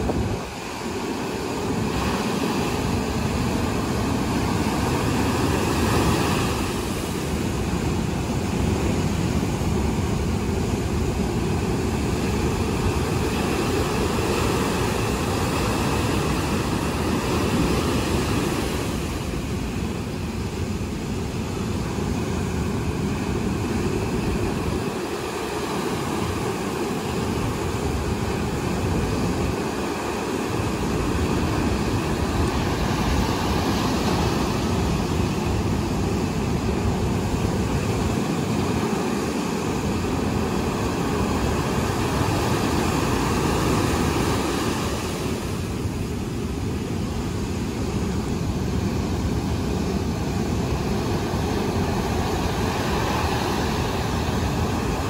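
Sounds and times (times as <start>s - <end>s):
surf breaking on beach: 0.0s - 55.0s.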